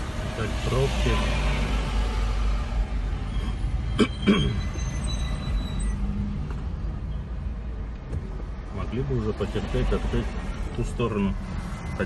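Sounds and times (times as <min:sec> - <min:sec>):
slow road traffic rumble: 0:00.0 - 0:12.0.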